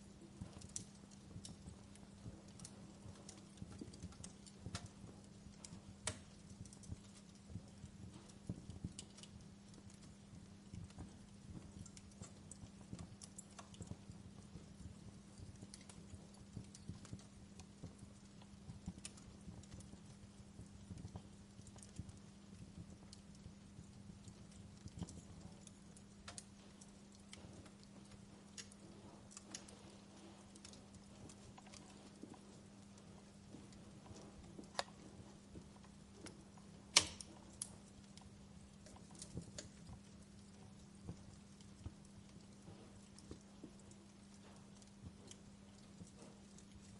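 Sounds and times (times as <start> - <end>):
steady low hum: 0.0 - 46.9
wood fire crackling: 0.0 - 46.9.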